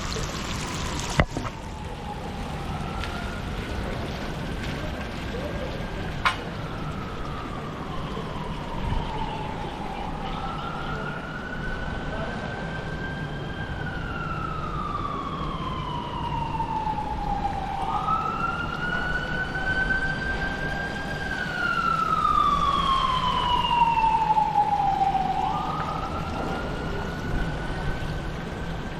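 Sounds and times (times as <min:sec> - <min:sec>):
siren wailing: 0:00.5 - 0:28.9.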